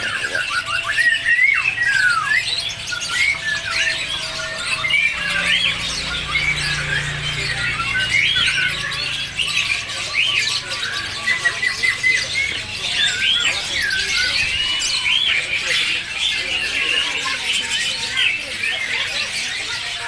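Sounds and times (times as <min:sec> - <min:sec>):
songbirds chirping and whistling: 0:00.0 - 0:20.0.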